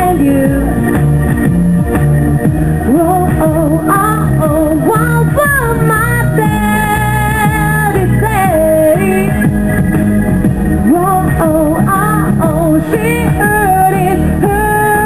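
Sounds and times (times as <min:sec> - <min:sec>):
woman singing into a microphone: 0:00.0 - 0:01.2, 0:02.8 - 0:09.6, 0:10.8 - 0:15.0
backing track with guitar: 0:00.0 - 0:15.0.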